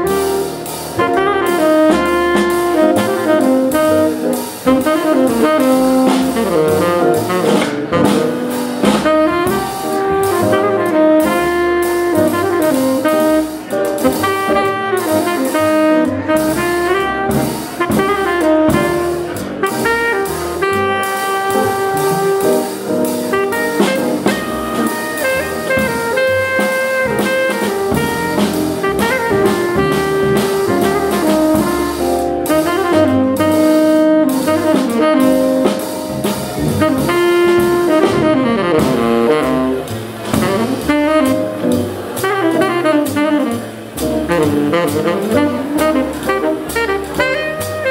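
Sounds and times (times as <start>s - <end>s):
drum kit: 0.0s - 47.9s
tenor saxophone melody: 0.0s - 47.9s
upright bass: 0.0s - 47.9s.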